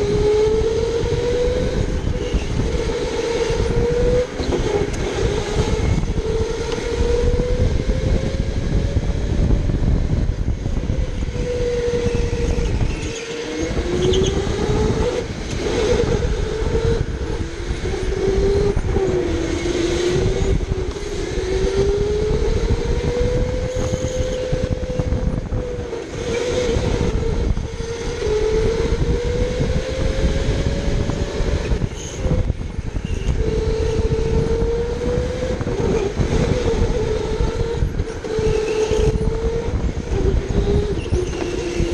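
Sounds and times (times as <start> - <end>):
electric go-kart motor whining: 0.0 - 41.9.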